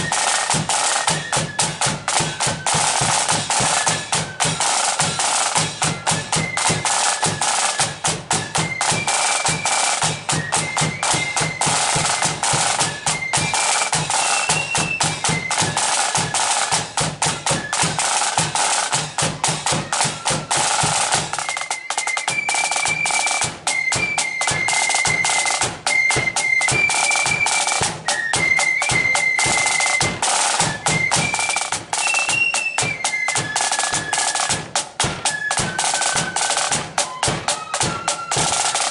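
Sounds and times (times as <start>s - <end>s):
flutes playing melody: 0.0s - 38.9s
snare drums: 0.0s - 38.9s.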